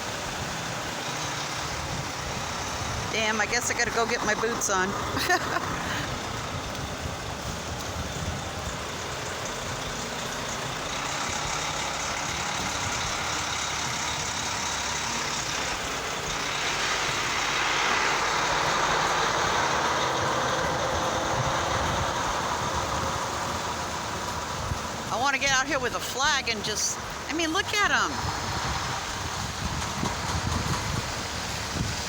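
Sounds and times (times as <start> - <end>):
tyres through floodwater: 0.0 - 32.0.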